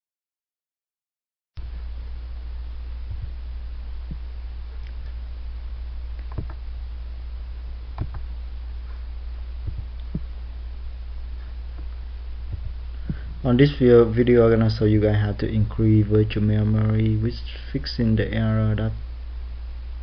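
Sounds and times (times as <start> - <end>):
low electrical hum: 1.6 - 20.0.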